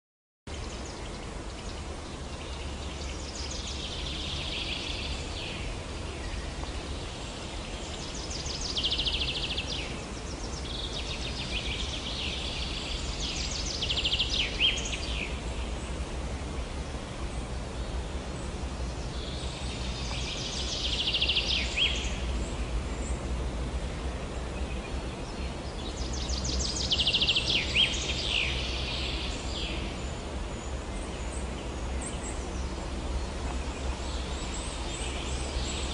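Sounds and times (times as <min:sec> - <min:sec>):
songbird singing: 0:00.5 - 0:35.9
steady low rumble: 0:00.5 - 0:35.9.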